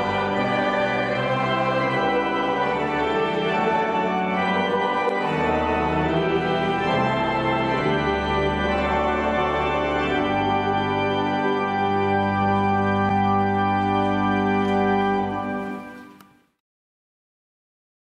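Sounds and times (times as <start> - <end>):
church organ chords: 0.0 - 16.2.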